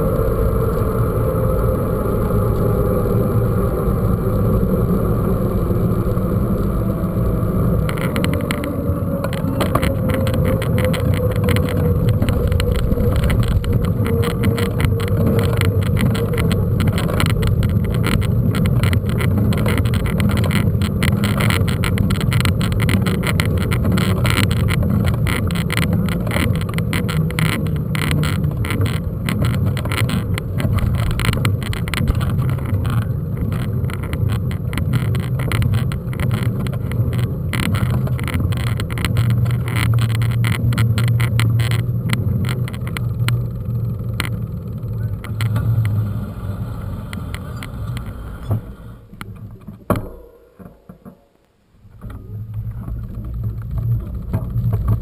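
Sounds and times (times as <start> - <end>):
mountain bike rumbling over trail: 0.0 - 51.1, 51.8 - 55.0.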